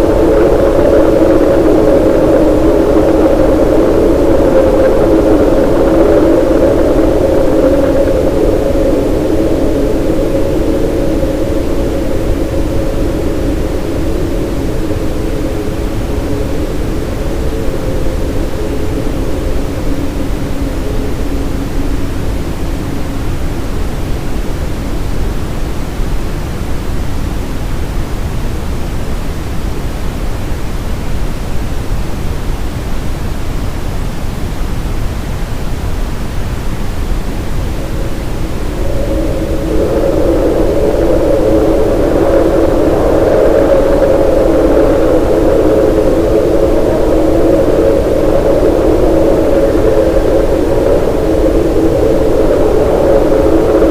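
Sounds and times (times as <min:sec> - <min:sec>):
steady brown noise: 0:00.0 - 0:53.9.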